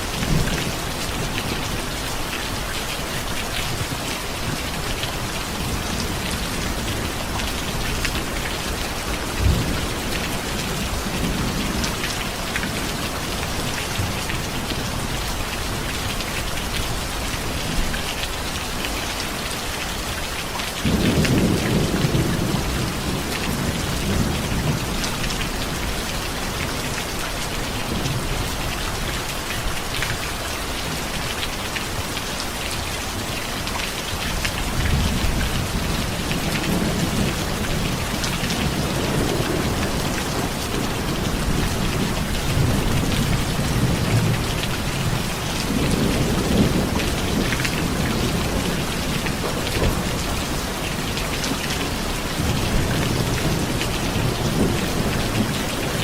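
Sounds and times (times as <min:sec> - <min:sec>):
heavy rain hissing and pattering: 0:00.0 - 0:56.0.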